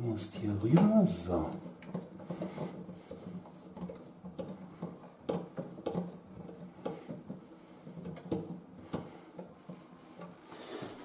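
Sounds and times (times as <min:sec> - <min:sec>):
light clicks and knocks: 0:00.0 - 0:11.0.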